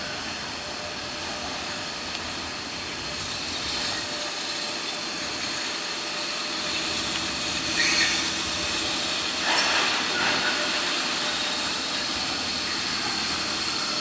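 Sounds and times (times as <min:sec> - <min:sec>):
locomotive whirring hum and hiss: 0:00.0 - 0:14.0.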